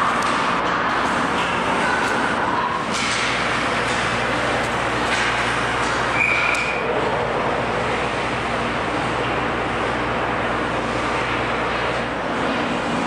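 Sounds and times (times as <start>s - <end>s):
ice rink drone: 0.0s - 13.0s.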